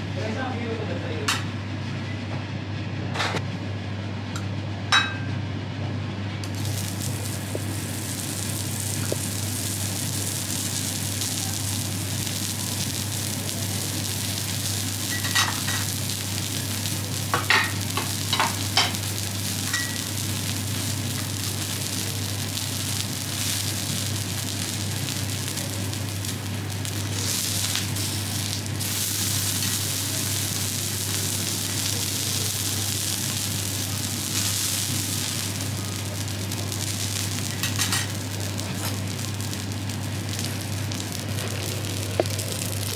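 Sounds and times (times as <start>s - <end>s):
steak sizzling on griddle: 6.5s - 42.9s.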